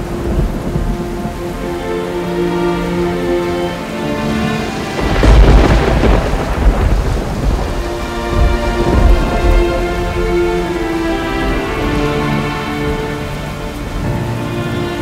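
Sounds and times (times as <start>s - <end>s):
thunder rolling: 0.0s - 3.2s, 4.2s - 15.0s
held music notes: 0.0s - 15.0s
steady rain: 0.0s - 15.0s.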